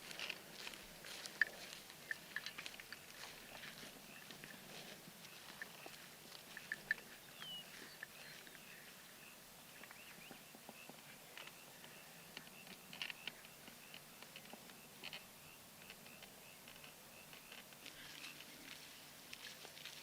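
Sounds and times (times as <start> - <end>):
small clicks and rustles: 0.0 - 8.6, 9.8 - 20.0.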